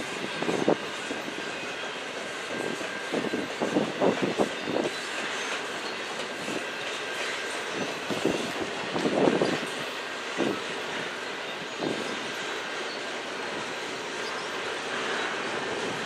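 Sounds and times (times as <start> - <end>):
freight train rolling rumble: 0.0 - 16.0.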